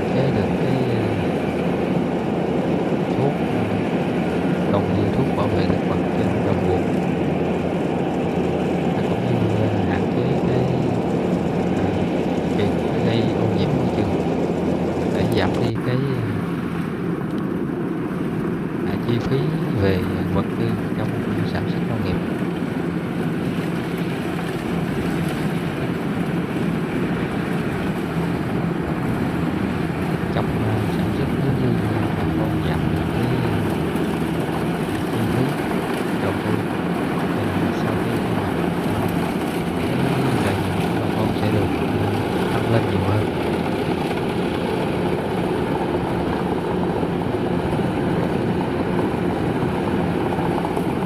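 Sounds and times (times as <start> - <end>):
combine harvester diesel engine: 0.0 - 51.0.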